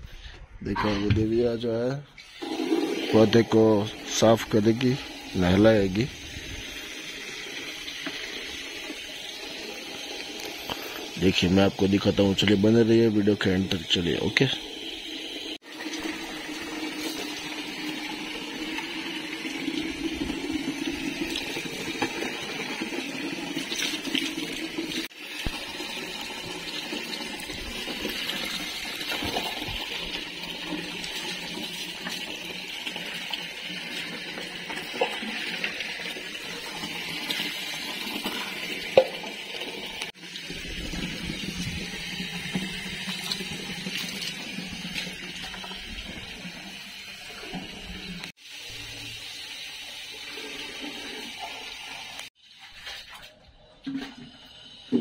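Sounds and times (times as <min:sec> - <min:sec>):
tap water running into bucket: 0:02.2 - 0:53.2, 0:53.9 - 0:55.0.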